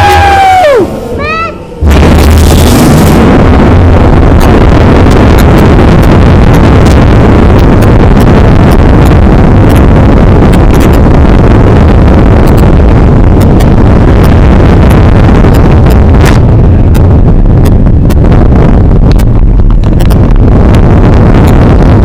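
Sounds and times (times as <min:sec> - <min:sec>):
wind buffeting microphone: 0:00.0 - 0:22.0
sharp clicks and rattles: 0:01.9 - 0:22.0.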